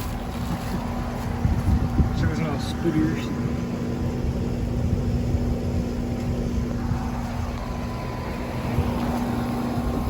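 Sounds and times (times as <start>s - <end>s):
compressor hum: 0.0s - 10.0s
fan whoosh: 1.3s - 10.0s.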